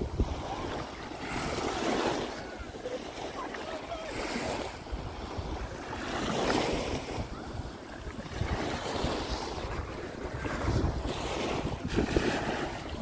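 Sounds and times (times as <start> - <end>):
small waves washing on sandy beach: 0.0 - 13.0.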